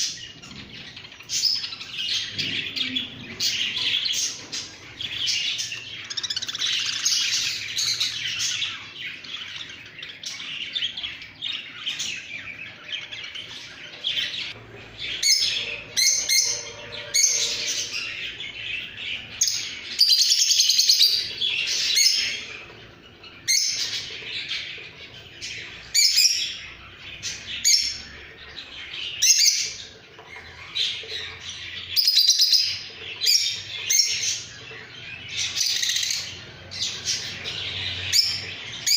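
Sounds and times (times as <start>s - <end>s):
pet birds chirping: 0.0s - 38.9s.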